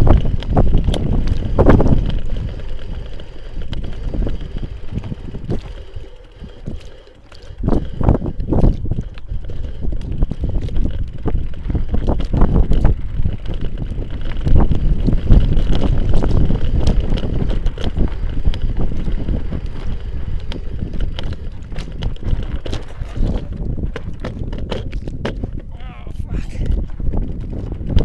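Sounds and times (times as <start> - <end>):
bicycle rattling over dirt trail: 0.0 - 28.0
wind rumbling on microphone: 0.0 - 28.0.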